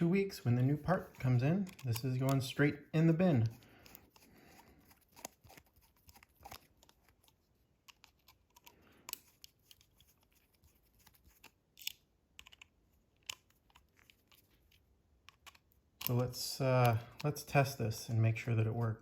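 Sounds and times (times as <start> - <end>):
small parts clicking and tapping: 1.0 - 2.6, 3.3 - 17.8.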